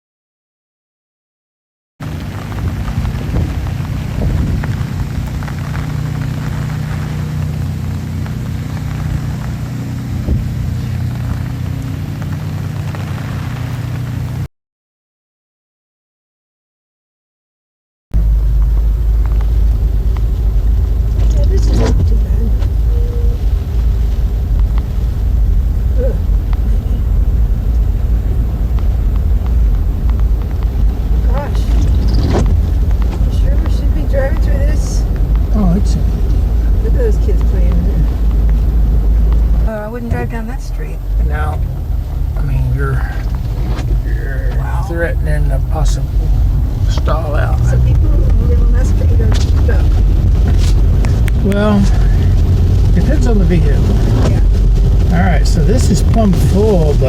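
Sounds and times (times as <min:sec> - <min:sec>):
car engine and road drone: 0:02.0 - 0:14.5, 0:18.2 - 0:57.0.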